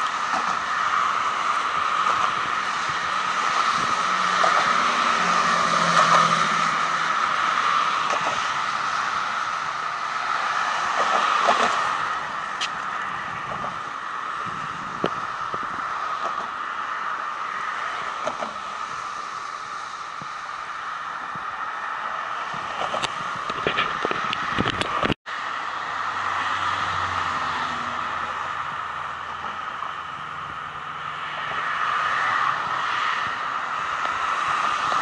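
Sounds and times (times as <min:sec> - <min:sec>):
tyres hissing on road: 0:00.0 - 0:35.0
vehicles passing: 0:00.0 - 0:35.0.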